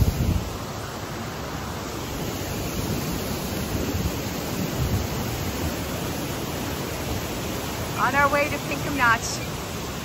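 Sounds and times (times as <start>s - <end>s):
fast-flowing river water rushing: 0.0s - 10.0s.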